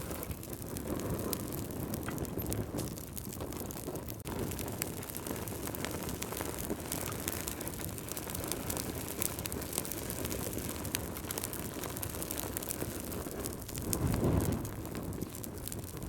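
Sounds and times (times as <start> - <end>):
logs crackling and popping: 0.0 - 16.0
low rumble of flames: 0.0 - 16.0
whoosh of flame: 0.0 - 16.0.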